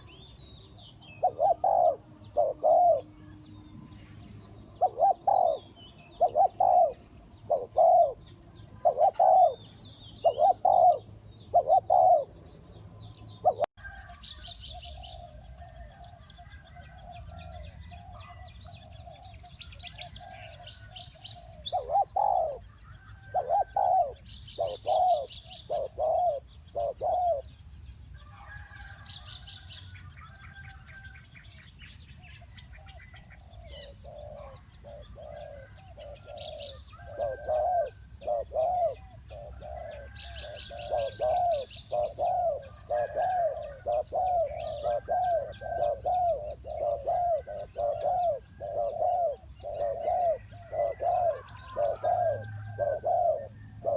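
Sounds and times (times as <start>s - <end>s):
small birds chirping: 0.0s - 53.9s
dove cooing: 1.1s - 3.2s, 4.7s - 9.6s, 10.2s - 12.4s, 13.4s - 27.6s, 32.4s - 53.9s.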